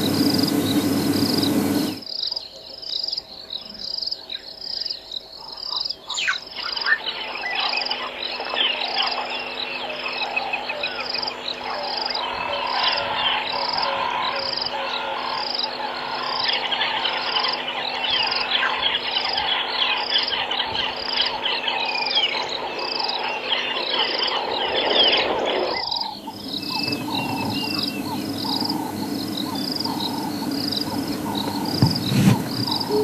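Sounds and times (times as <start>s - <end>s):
birds chirping: 0.0s - 33.0s
insects pulsing: 0.0s - 33.0s.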